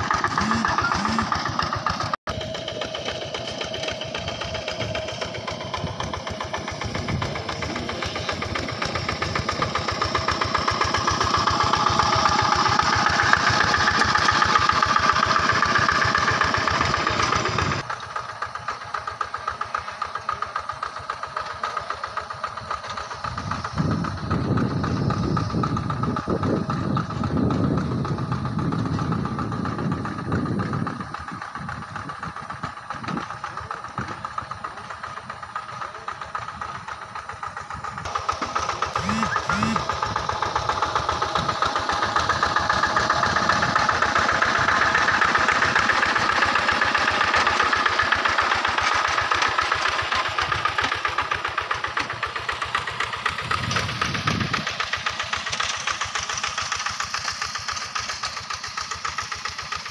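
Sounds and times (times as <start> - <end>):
diesel engine chugging: 0.0 - 59.9.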